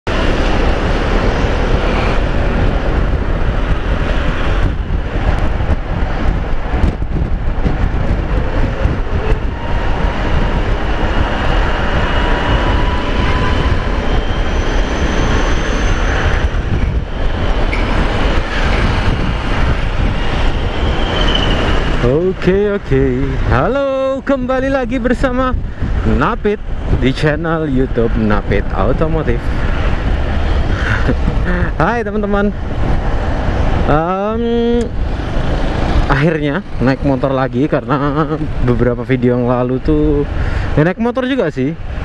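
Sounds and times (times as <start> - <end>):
wind rushing over microphone: 0.0 - 42.0.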